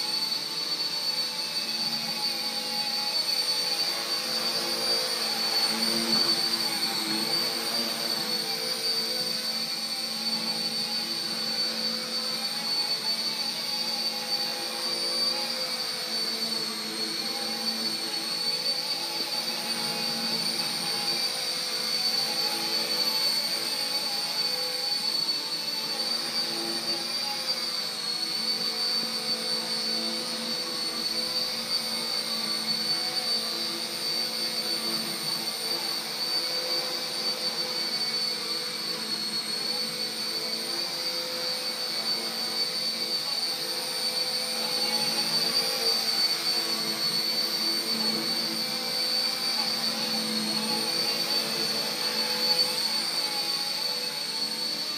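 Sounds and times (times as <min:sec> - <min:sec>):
rc helicopter rotor whine: 0:00.0 - 0:54.9.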